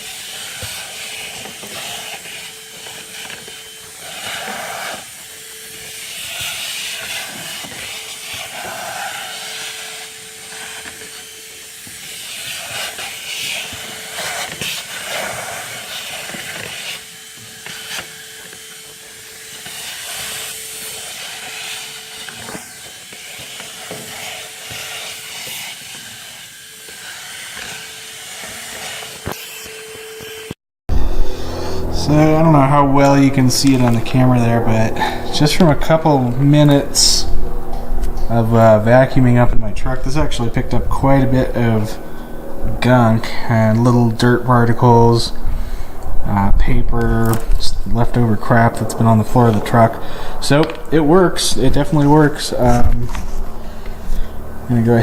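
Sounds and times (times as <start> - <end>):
handheld vacuum running: 0.0 - 39.1, 47.0 - 55.0.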